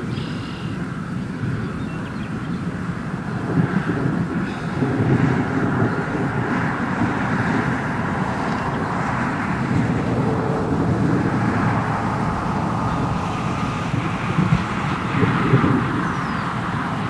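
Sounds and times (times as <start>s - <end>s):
distant hail roar: 0.7s - 17.0s.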